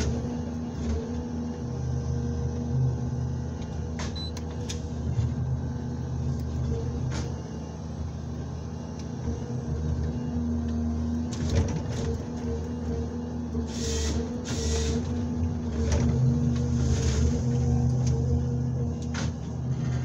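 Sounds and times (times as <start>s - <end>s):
forest harvester engine hum: 0.0s - 20.0s.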